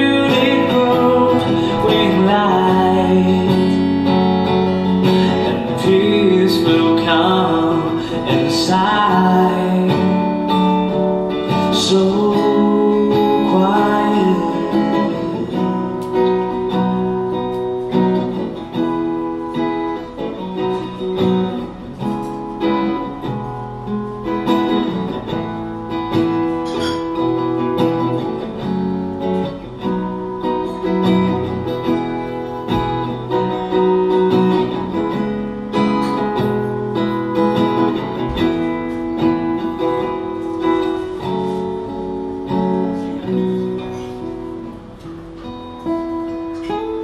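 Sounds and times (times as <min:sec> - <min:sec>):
acoustic guitar chords: 0:00.0 - 0:47.0.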